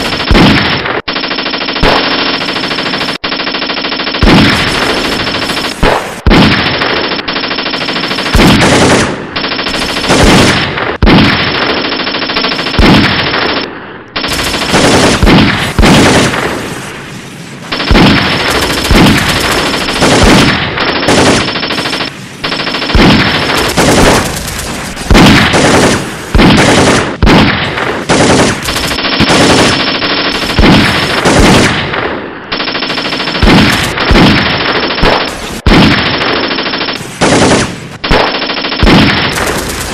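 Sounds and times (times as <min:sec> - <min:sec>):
automatic gunfire bursts: 0:00.0 - 0:16.9, 0:17.6 - 0:39.9
loud gunshots: 0:00.0 - 0:39.9.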